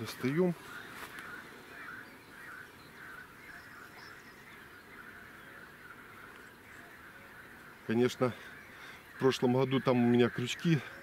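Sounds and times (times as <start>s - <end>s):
distant birds calling: 0.0s - 11.0s.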